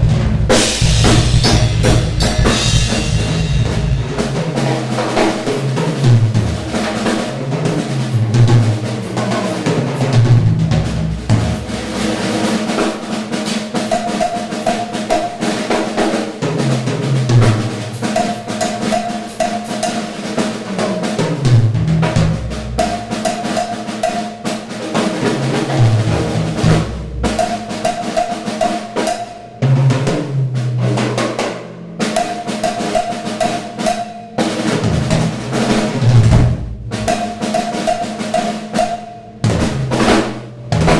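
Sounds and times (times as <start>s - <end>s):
drum kit played solo: 0.0s - 40.9s.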